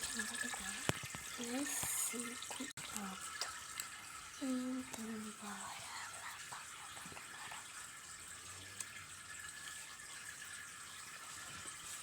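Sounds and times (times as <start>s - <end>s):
fish tank water trickling: 0.0s - 12.0s.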